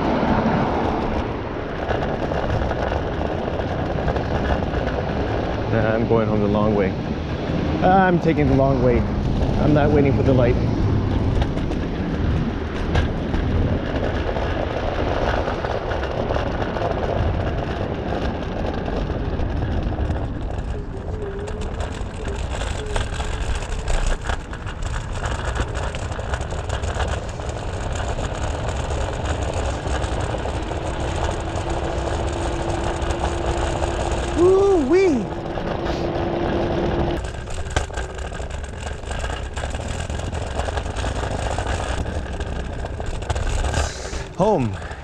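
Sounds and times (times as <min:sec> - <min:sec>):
scooter road rumble: 0:00.0 - 0:45.0
wind rushing over microphone: 0:00.0 - 0:45.0.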